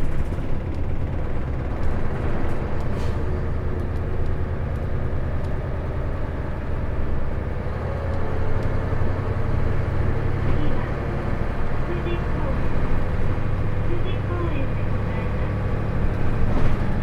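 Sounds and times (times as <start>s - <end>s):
bus diesel engine drone: 0.0s - 17.0s
road noise: 0.0s - 17.0s.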